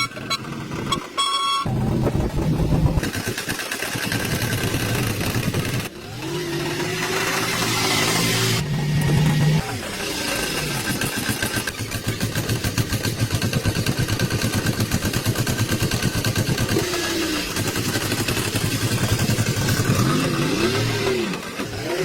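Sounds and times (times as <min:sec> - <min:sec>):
old truck engine running: 0:00.0 - 0:22.0.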